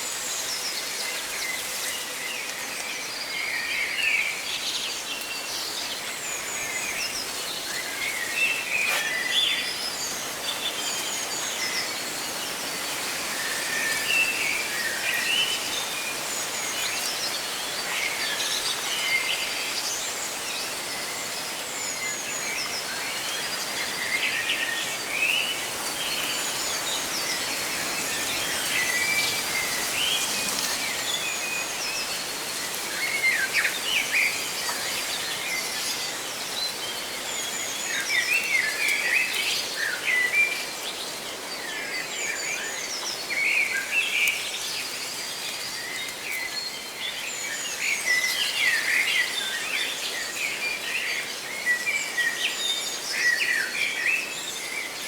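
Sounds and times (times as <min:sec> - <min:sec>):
leaves rustling in wind: 0:00.0 - 0:55.0.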